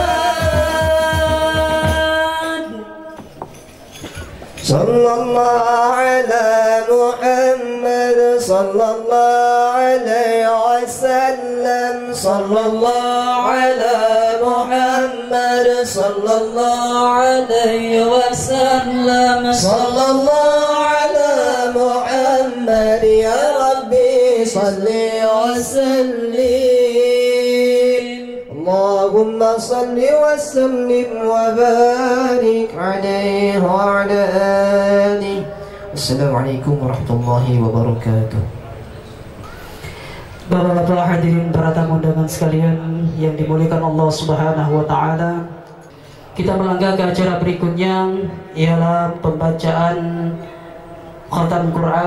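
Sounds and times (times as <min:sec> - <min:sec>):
man chanting into a microphone: 0:00.0 - 0:03.4, 0:04.6 - 0:38.7, 0:40.4 - 0:52.0.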